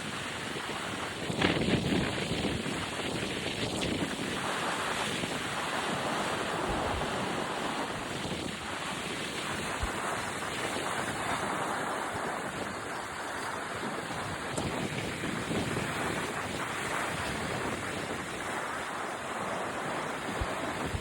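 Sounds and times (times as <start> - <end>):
sea waves washing onto beach: 0.0 - 21.0
wind buffeting microphone: 0.0 - 21.0.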